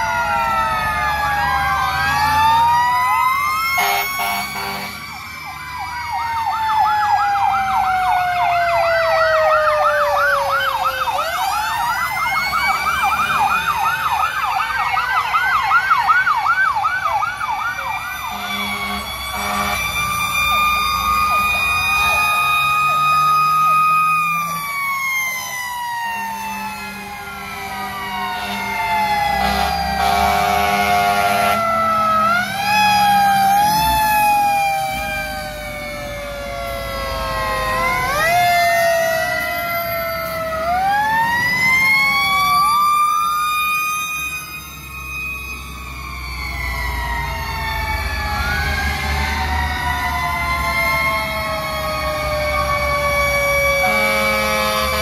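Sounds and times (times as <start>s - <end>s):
fire truck sirens: 0.0s - 55.0s.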